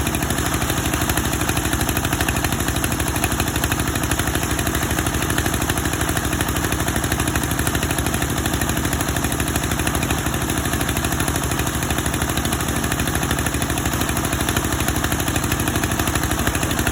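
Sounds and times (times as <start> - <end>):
grinding machine running: 0.0 - 16.9.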